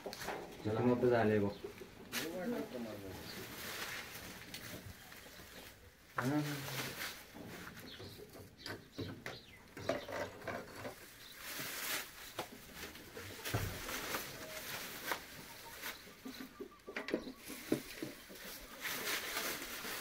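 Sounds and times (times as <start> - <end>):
dry straw rustling: 0.0 - 8.1, 10.8 - 20.0.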